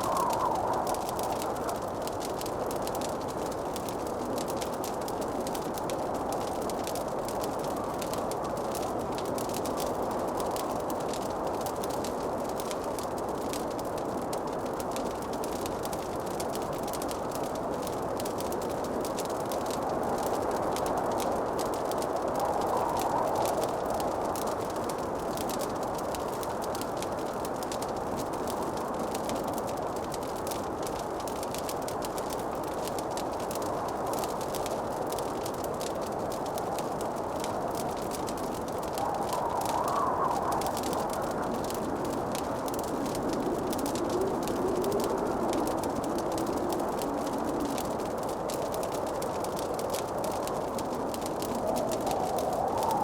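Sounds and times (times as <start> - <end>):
fire flame rushing: 0.0 - 9.8, 18.6 - 27.0, 28.0 - 53.0
fire crackles and pops: 0.0 - 53.0.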